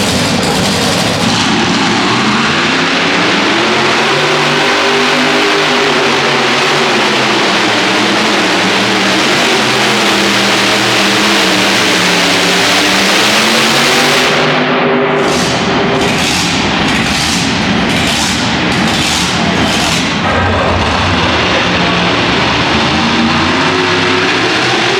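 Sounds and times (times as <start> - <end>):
rough engine rumble: 0.0 - 24.9
tractor engine at full throttle: 0.0 - 24.9.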